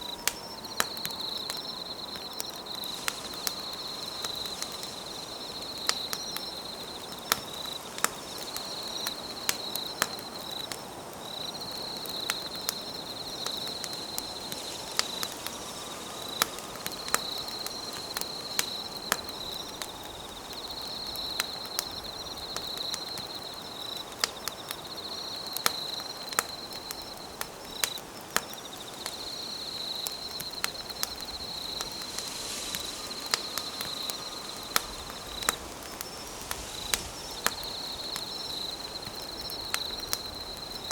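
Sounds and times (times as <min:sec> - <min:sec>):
campfire crackling and popping: 0:00.0 - 0:40.9
insects trilling: 0:00.0 - 0:40.9.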